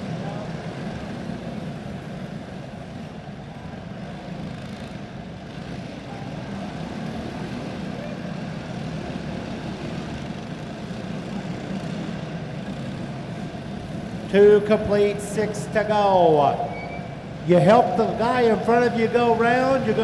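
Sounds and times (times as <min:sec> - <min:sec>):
kart engines droning: 0:00.0 - 0:20.0.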